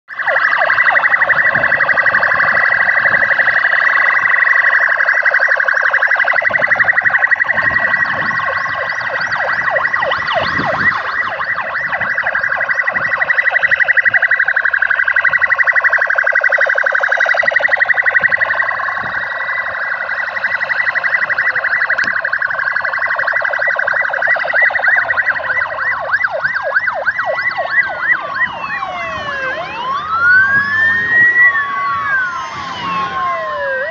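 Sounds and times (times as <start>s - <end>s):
police sirens wailing and yelping: 0.0s - 33.9s.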